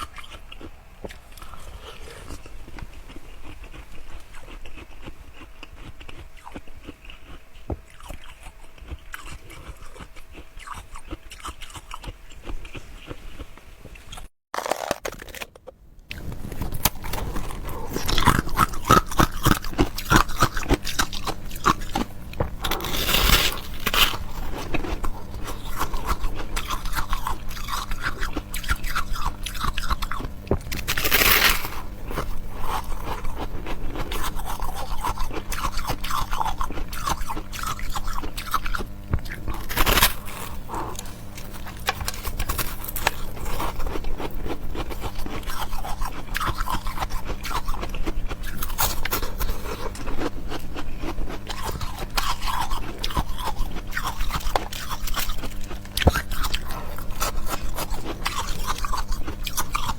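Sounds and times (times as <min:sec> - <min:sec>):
ice crunching between teeth: 0:00.0 - 0:13.2, 0:14.0 - 0:59.9.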